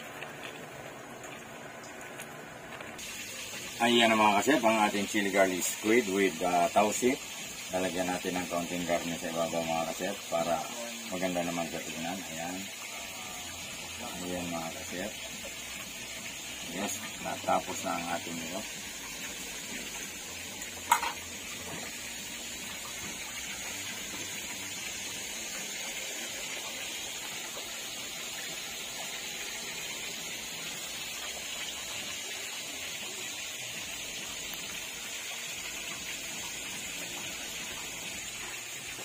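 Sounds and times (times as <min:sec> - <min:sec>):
steady high hiss: 0:03.0 - 0:39.0.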